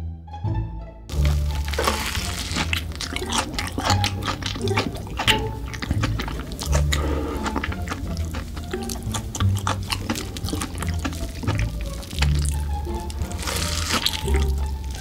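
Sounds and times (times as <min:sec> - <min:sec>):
crunchy snack crunching: 0:01.1 - 0:15.0
wet sticky mouth sounds: 0:01.1 - 0:15.0.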